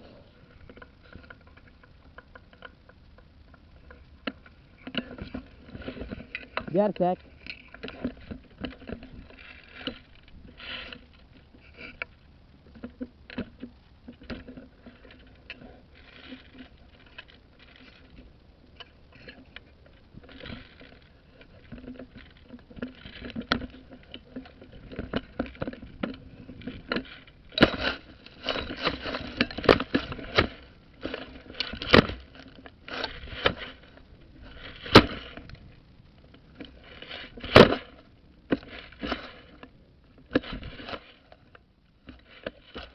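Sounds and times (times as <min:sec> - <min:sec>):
rustling and scraping: 0:00.0 - 0:42.9.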